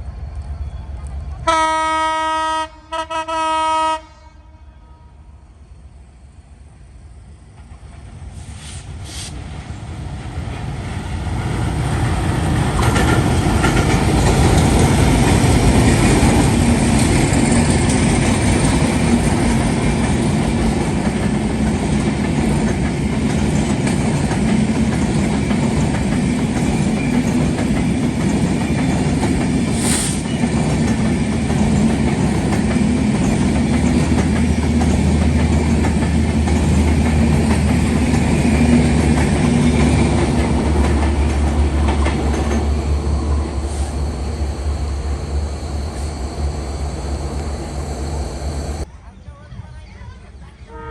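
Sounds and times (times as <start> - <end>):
train passing with wheels clattering: 0.0 - 3.7, 5.8 - 48.9.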